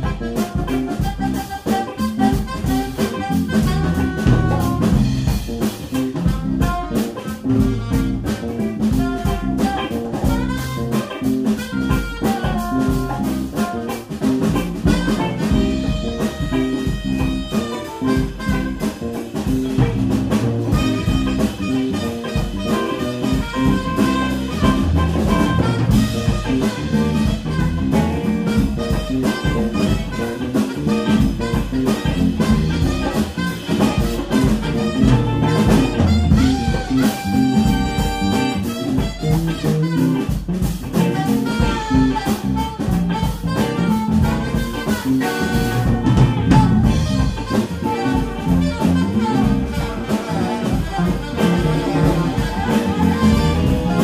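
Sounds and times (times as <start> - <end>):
drum kit groove: 0.0 - 54.0
electric bass: 0.0 - 54.0
horns playing melody: 0.0 - 54.0.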